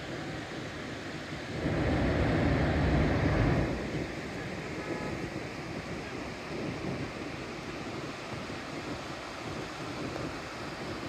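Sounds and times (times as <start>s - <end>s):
surf breaking on beach: 0.1s - 11.0s.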